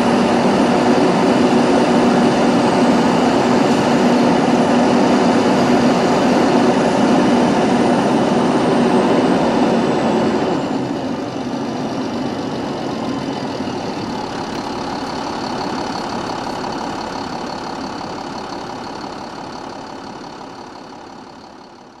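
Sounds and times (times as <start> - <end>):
bus diesel engine with high whine: 0.0 - 22.0.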